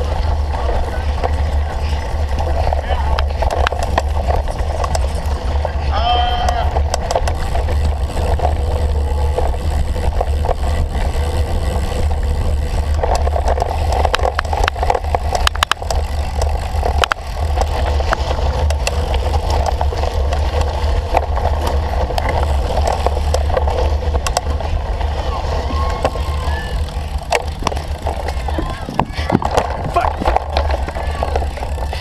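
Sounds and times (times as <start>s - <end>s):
bike rattling clicks: 0.0s - 32.0s
tyre and frame rumble: 0.0s - 32.0s
wind buffeting microphone: 0.0s - 32.0s.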